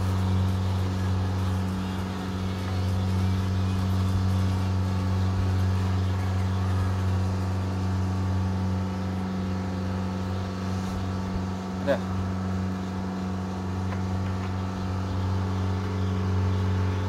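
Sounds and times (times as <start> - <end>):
engine running low hum: 0.0 - 17.0.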